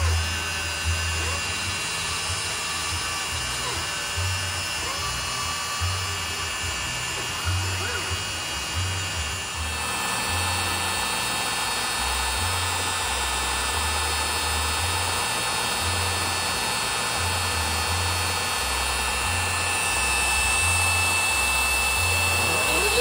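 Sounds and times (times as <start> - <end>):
router bit cutting wood: 0.0 - 23.0
router spindle whine: 0.0 - 23.0.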